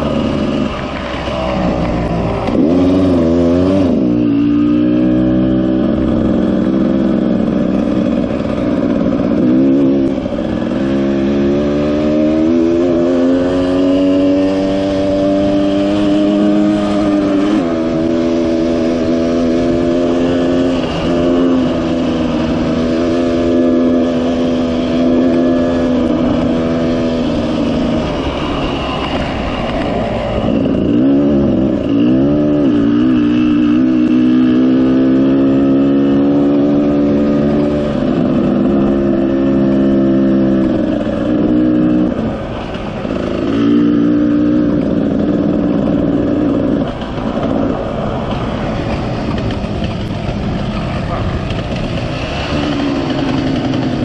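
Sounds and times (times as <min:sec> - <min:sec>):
wind noise: 0:00.0 - 0:54.0.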